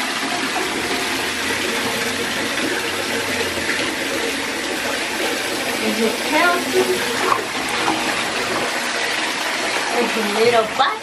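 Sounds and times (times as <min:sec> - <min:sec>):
faucet pouring into full tub: 0:00.0 - 0:11.0.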